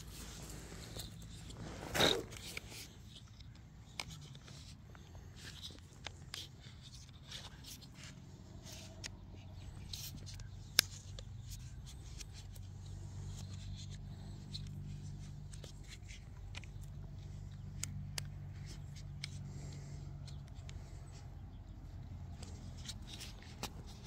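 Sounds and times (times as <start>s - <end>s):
plastic tubing clicks and rustles: 0.0s - 24.0s
steady low hum: 0.0s - 24.0s.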